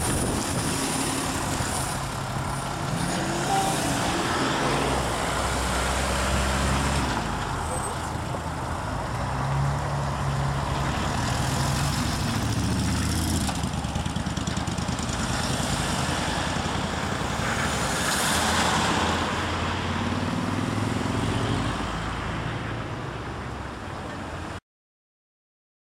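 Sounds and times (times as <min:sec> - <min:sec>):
vehicle engines passing by: 0:00.0 - 0:24.6.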